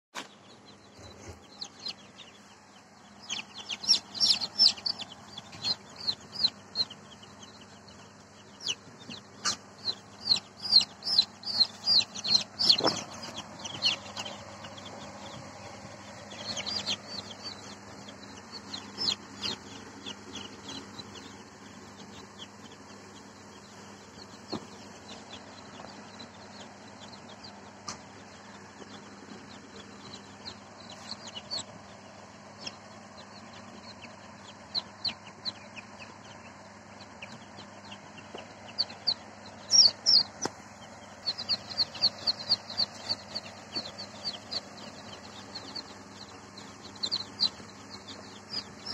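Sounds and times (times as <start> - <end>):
chicks peeping: 0.2 - 48.9.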